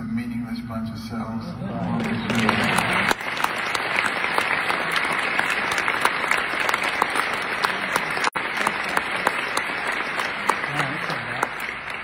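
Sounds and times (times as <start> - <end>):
audience applauding: 1.7 - 12.0.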